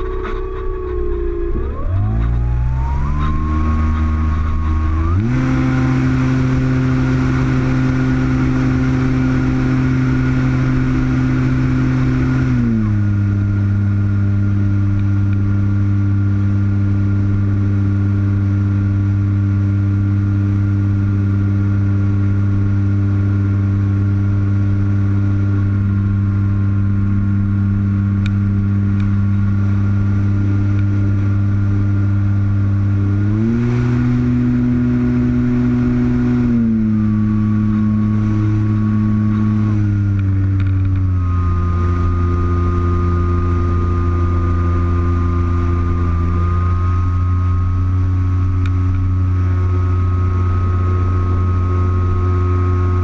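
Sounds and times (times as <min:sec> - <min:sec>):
model plane motor and propeller: 0:00.0 - 0:53.0.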